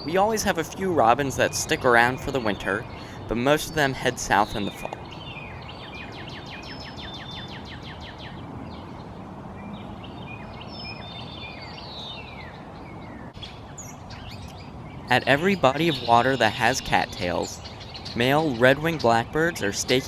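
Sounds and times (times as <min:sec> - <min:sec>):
background hiss and rumble: 0:00.0 - 0:20.0
songbirds singing: 0:00.0 - 0:20.0.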